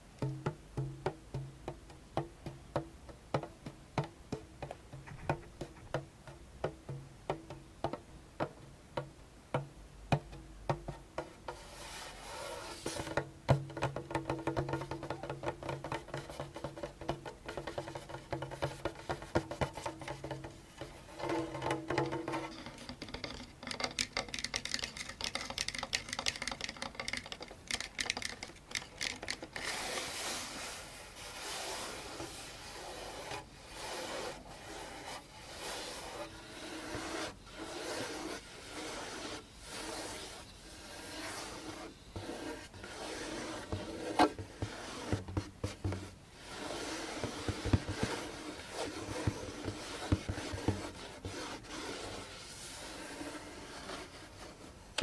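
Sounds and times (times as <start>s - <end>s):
fingers scratching hand drum: 0.2s - 8.0s, 10.2s - 54.6s.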